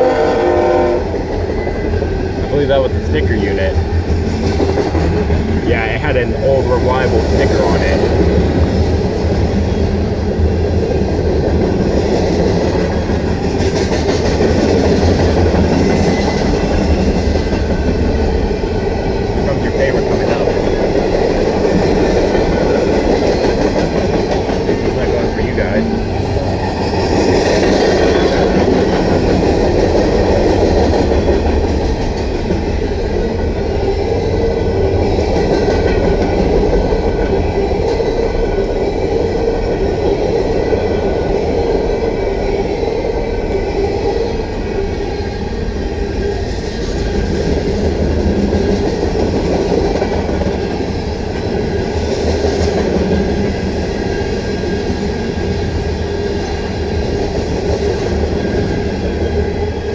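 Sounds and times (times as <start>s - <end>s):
steel wheels on rails: 1.0s - 59.9s.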